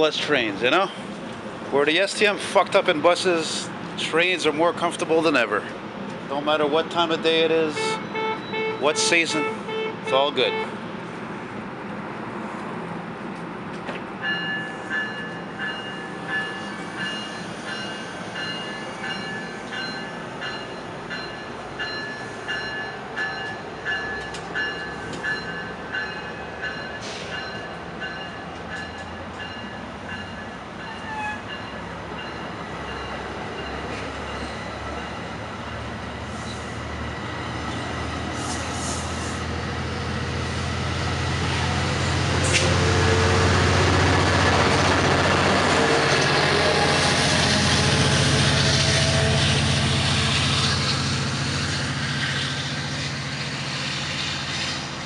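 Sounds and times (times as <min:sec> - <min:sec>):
diesel locomotive drone: 0:00.0 - 0:55.0
train rolling past: 0:00.0 - 0:55.0.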